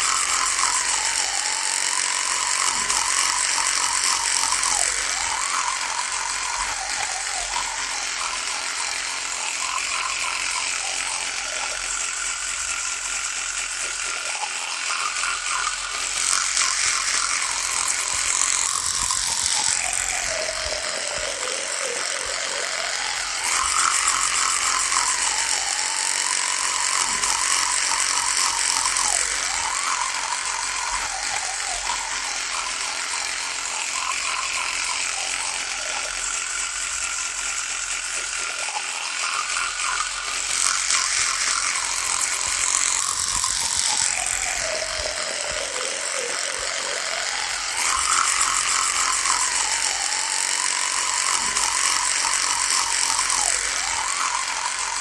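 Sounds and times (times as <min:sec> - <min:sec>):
electric toothbrush buzzing: 0:00.0 - 0:55.0.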